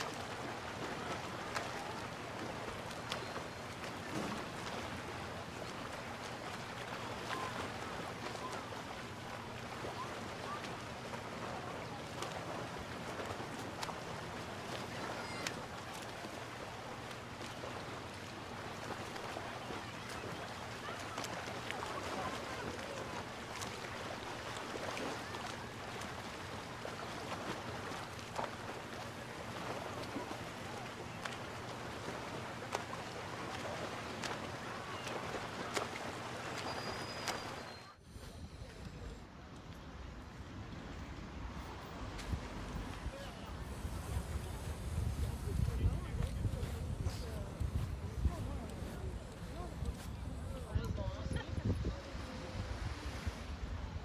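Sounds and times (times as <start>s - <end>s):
distant people: 0.0s - 54.0s
faint distant voices: 0.0s - 54.0s
sea waves: 0.0s - 54.0s
wind: 0.0s - 54.0s.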